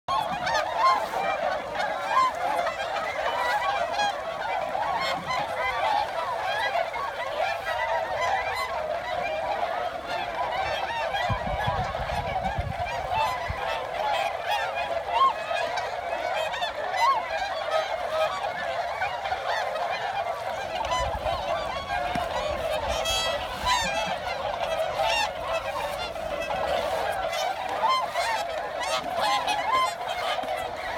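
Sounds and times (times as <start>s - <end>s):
swans honking: 0.1s - 30.9s.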